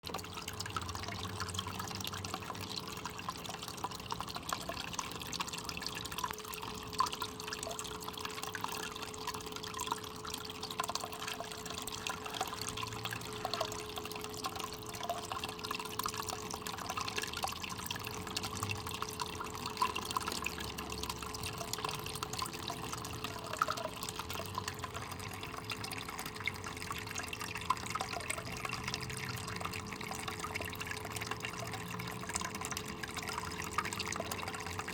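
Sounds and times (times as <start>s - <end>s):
faint steady hum: 0.0s - 34.9s
water trickling and splashing: 0.0s - 34.9s.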